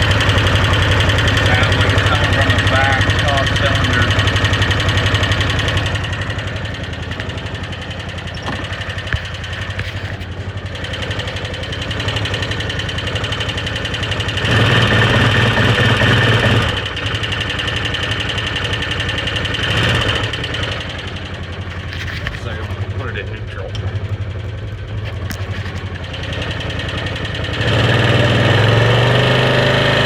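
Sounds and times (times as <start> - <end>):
engine idling: 0.0 - 30.0
rapid even engine ticking: 0.0 - 30.0.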